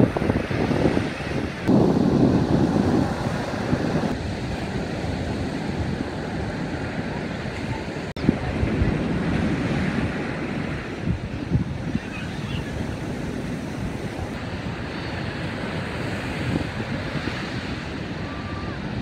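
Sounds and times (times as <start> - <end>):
ocean surf breaking: 0.0 - 19.0
wind buffeting the microphone: 0.0 - 19.0.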